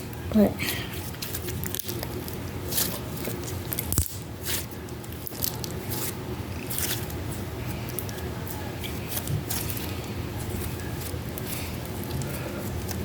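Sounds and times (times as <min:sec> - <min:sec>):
slime squishing: 0:00.0 - 0:13.0.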